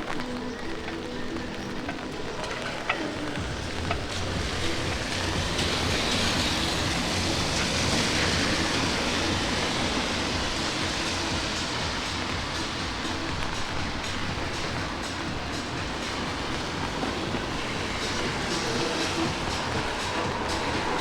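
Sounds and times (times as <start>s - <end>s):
light rain: 0.0s - 21.0s
rushing hiss of tyres: 0.0s - 21.0s.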